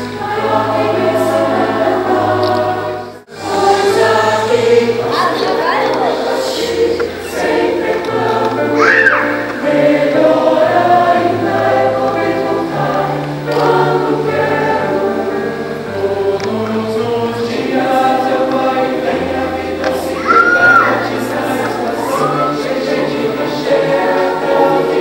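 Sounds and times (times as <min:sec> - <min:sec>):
mixed choir singing: 0:00.0 - 0:25.0.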